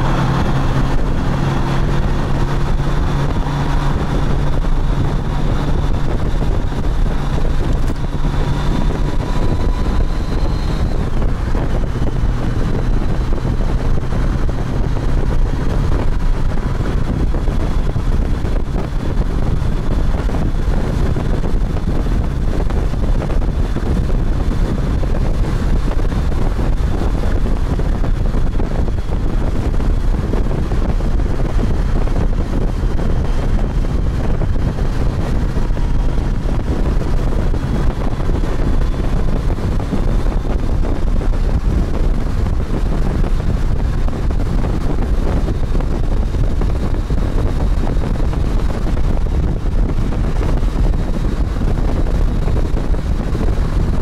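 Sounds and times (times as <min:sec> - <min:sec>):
motorcycle engine and road rumble: 0:00.0 - 0:54.0
wind rush on microphone: 0:00.0 - 0:54.0.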